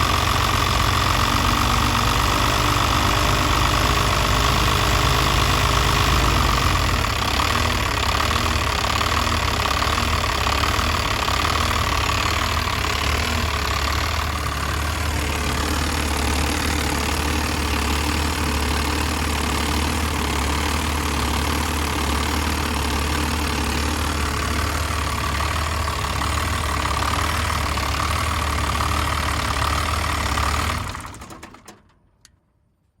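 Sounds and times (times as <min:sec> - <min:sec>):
diesel engine idling roughly: 0:00.0 - 0:31.5.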